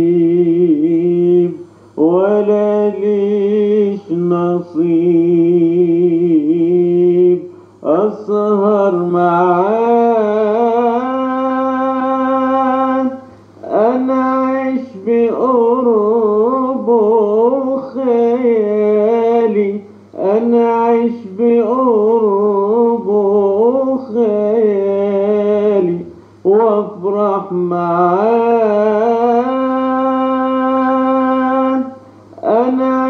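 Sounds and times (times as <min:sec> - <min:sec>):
faint steady hum: 0:00.0 - 0:33.0
man singing melismatic melody: 0:00.0 - 0:33.0.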